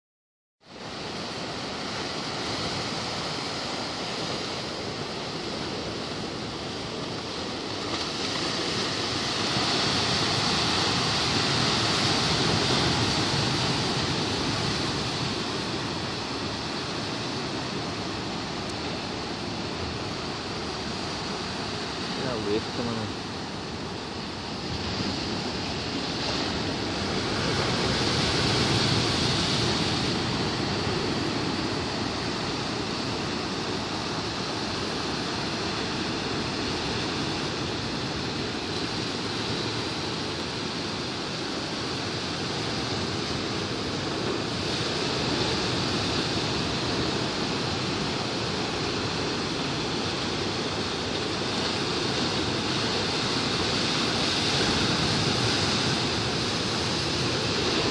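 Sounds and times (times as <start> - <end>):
sea waves breaking on rocks: 0.9 - 57.9.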